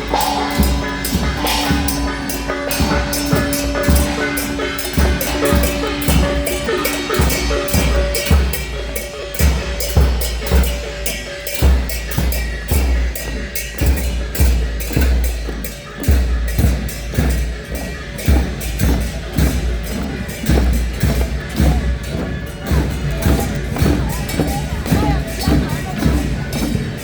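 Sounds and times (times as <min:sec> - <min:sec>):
procession drums beating: 0:00.0 - 0:27.0.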